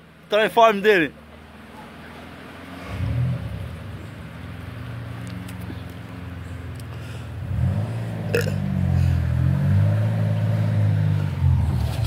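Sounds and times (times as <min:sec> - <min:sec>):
off-road vehicle engine revving: 0:01.8 - 0:12.0.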